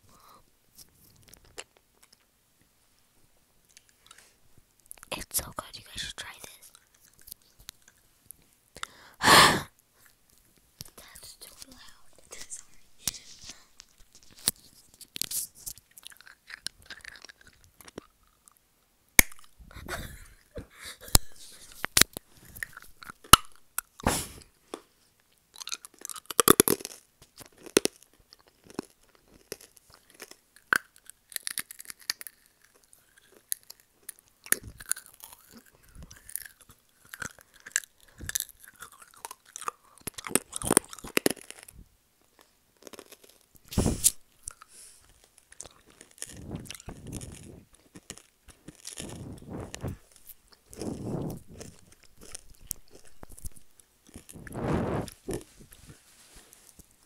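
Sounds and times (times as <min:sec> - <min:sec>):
close-up chewing and mouth clicks: 0:00.1 - 0:02.3, 0:03.6 - 0:09.0, 0:10.0 - 0:57.0.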